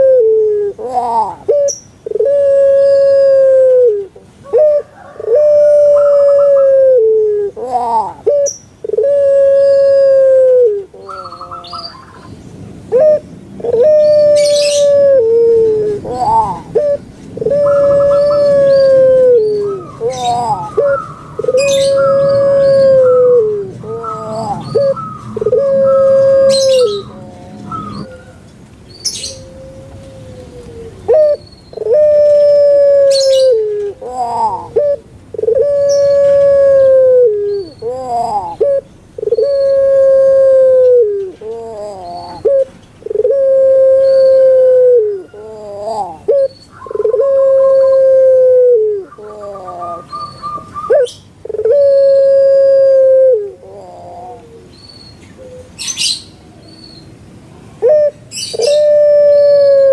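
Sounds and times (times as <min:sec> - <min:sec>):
dove cooing: 0:00.0 - 0:28.4, 0:29.0 - 0:56.2, 0:57.8 - 0:59.9.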